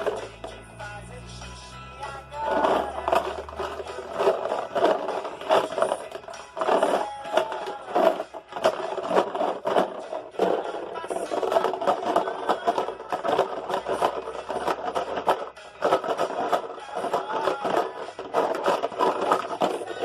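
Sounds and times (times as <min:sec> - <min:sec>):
pebbles rattling in shaken box: 0:00.0 - 0:00.6, 0:02.2 - 0:20.0
faint children's song: 0:00.0 - 0:20.0.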